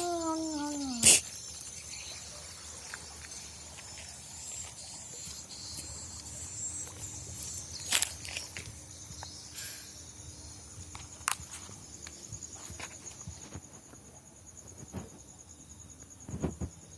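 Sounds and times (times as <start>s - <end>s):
insect trilling: 0.0s - 13.6s.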